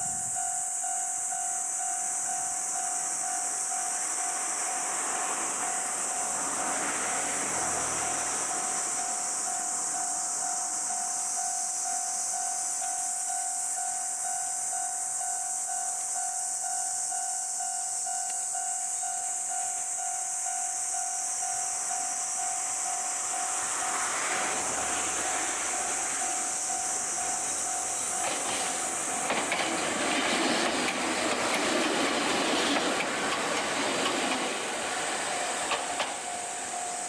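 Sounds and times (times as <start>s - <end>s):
constant high hiss: 0.0s - 37.0s
railroad crossing bell ringing: 0.0s - 37.0s
train rumble: 0.0s - 37.0s.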